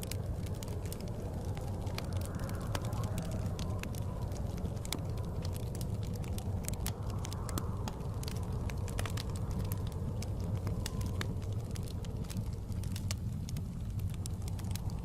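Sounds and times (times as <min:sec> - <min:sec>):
low rumble of blizzard wind: 0:00.0 - 0:15.0
wood fire crackling and popping: 0:00.0 - 0:15.0.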